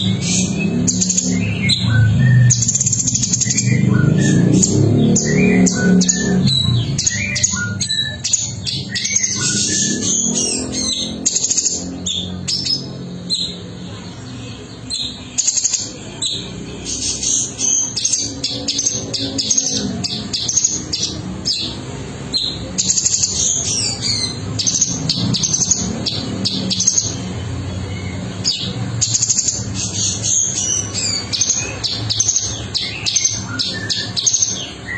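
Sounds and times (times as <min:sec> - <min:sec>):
bird singing chirps and trills: 0:00.0 - 0:34.9.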